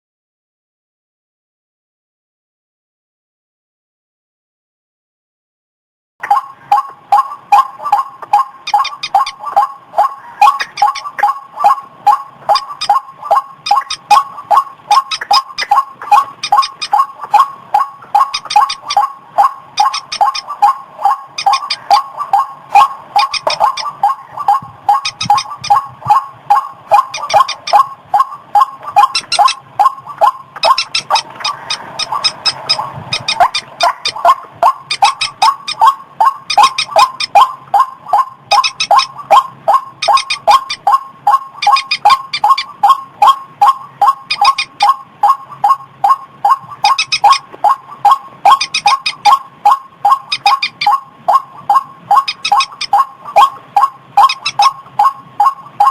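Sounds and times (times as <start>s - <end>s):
waterhen calling: 6.2s - 55.9s.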